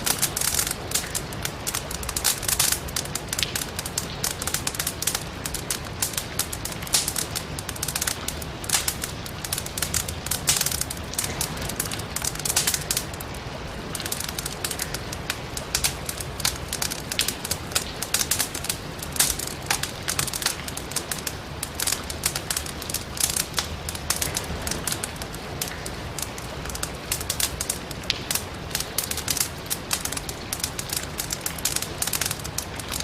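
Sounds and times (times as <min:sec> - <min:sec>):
firewood crackling and popping: 0:00.0 - 0:33.0.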